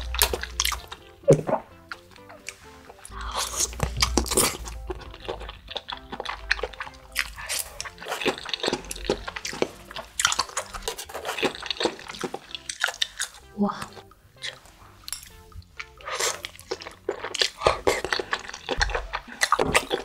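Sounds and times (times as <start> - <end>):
close chewing and slurping: 0.0 - 20.0
wet mouth clicks and smacks: 0.0 - 20.0.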